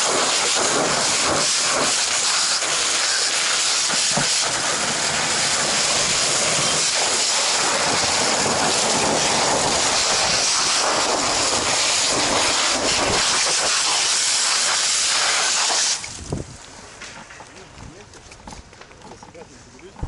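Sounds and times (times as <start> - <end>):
steam hissing: 0.0 - 16.2
water jet hissing: 0.0 - 16.6.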